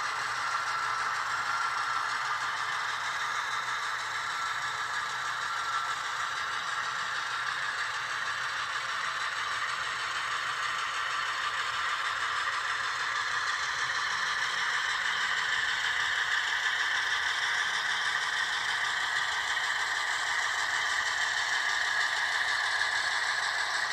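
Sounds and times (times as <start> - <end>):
model train rattling along track: 0.0 - 23.9.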